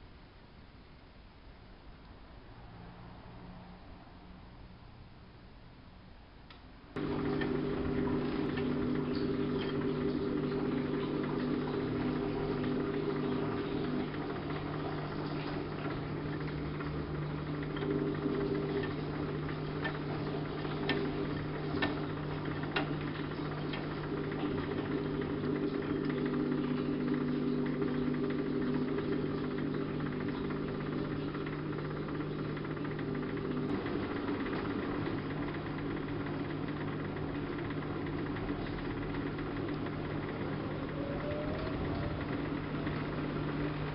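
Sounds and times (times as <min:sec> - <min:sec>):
washing machine motor hum: 0:06.5 - 0:43.9.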